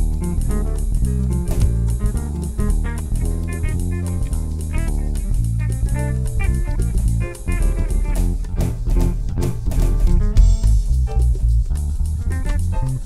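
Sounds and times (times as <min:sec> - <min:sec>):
electric guitar melody: 0:00.0 - 0:11.5, 0:12.2 - 0:13.0
bass guitar: 0:00.0 - 0:13.0
drum kit: 0:00.0 - 0:13.0.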